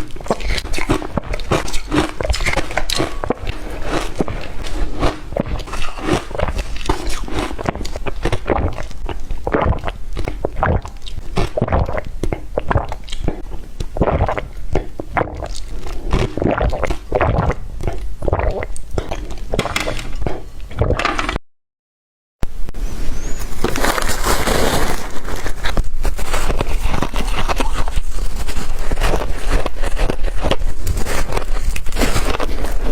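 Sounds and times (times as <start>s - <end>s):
person chewing crunchy ice: 0.0s - 21.2s, 23.5s - 32.9s.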